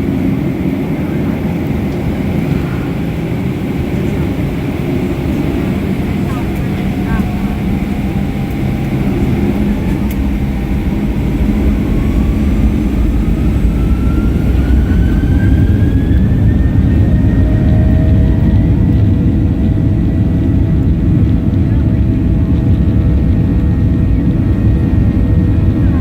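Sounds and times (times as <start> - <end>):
airliner engines rumbling and whining: 0.0 - 26.0.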